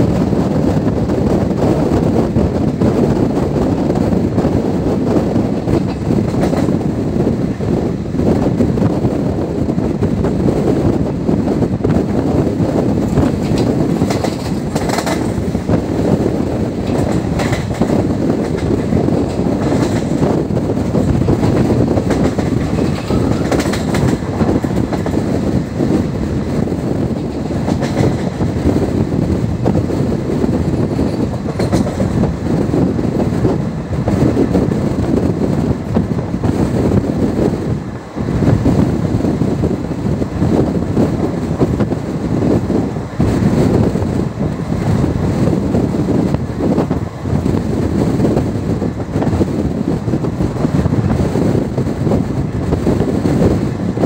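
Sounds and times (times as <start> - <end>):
train wheels clickety-clack: 0.0 - 54.0.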